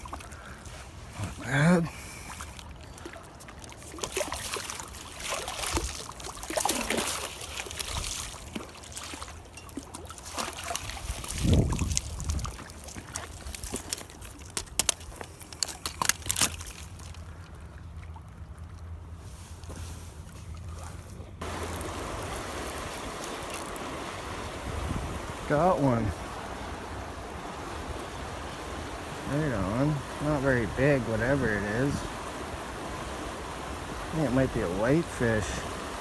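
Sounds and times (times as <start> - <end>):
river water sloshing and trickling: 0.0 - 36.0.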